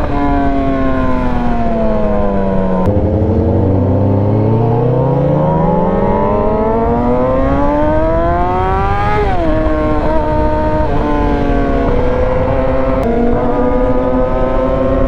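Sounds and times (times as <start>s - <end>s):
motorcycle engine revving: 0.7s - 15.0s.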